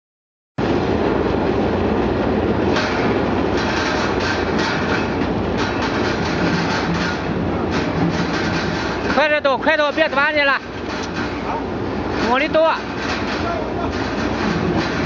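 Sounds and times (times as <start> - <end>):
washing machine motor rumbling: 0.6 - 15.0
irregular clattering: 2.7 - 15.0.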